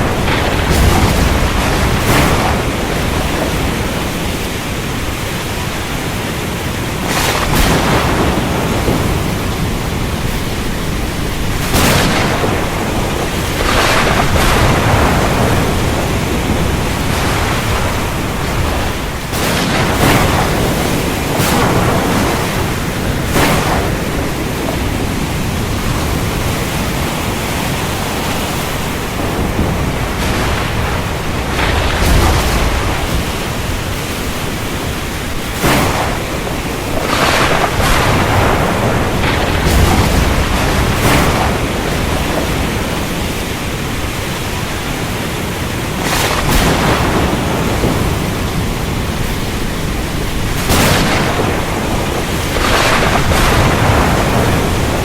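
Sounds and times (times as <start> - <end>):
heavy rain hissing: 0.0 - 55.0
thunder cracks and rumbles: 0.0 - 55.0.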